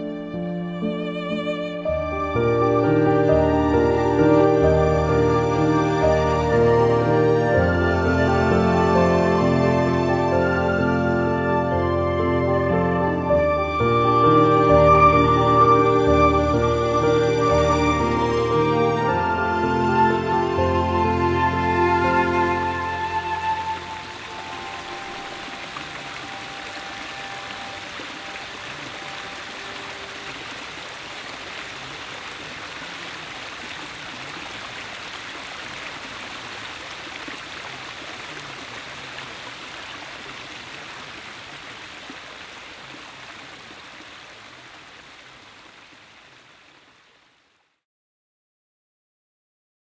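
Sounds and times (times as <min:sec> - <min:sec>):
stream water rushing: 0:00.0 - 0:47.6.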